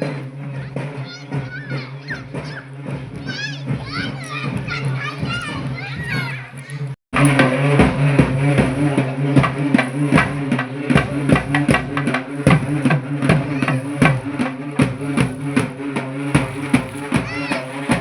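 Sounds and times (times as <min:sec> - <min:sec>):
drums beaten in fast rhythm: 0:00.0 - 0:18.0.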